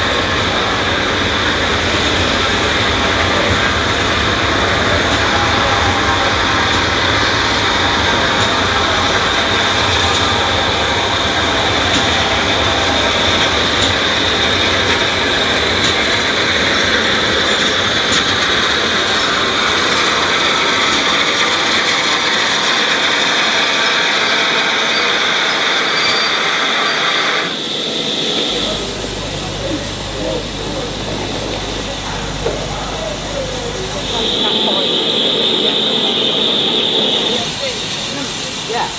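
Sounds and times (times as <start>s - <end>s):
wheels rumbling on rail: 0.0s - 38.9s
train brakes squealing: 2.6s - 29.0s, 33.4s - 38.9s.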